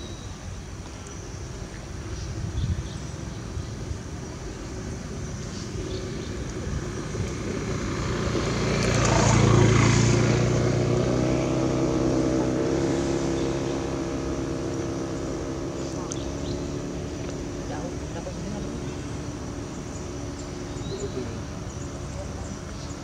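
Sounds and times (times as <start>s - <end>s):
motor vehicle engine passing: 3.1s - 23.0s.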